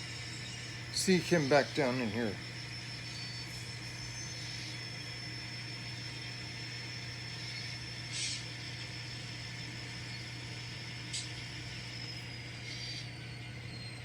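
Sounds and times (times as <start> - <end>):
model locomotive whirring: 0.0 - 14.0.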